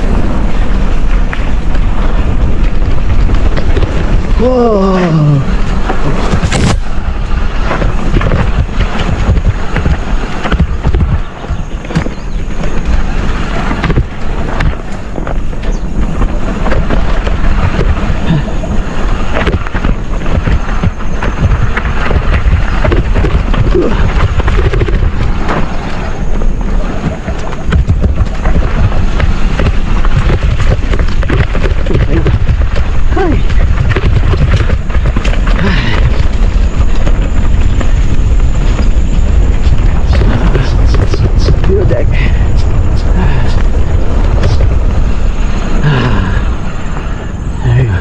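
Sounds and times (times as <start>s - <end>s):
bike rattling and knocking: 0.0s - 47.5s
wind buffeting microphone: 0.0s - 48.0s
tyres hissing on dirt: 4.0s - 48.0s.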